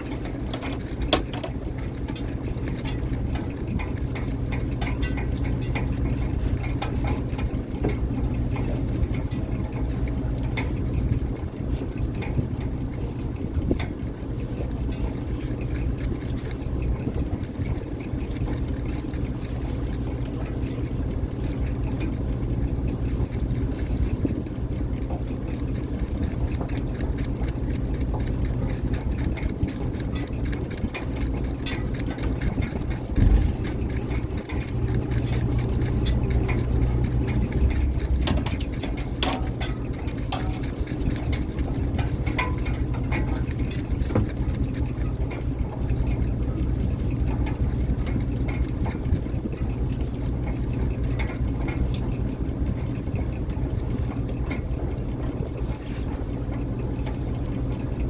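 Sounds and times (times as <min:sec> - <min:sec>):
boat engine droning: 0:00.0 - 0:58.0
small clicks and rattles: 0:00.0 - 0:58.0.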